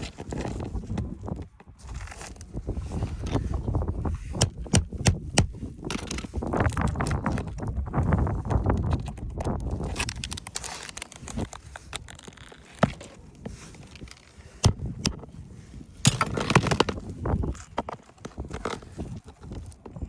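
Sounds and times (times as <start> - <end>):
scraper scraping under shingles: 0.0 - 19.9.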